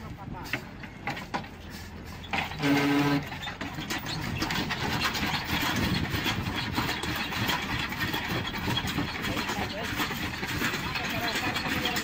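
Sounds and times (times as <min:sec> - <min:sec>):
truck engine rough crackling: 0:00.0 - 0:12.0.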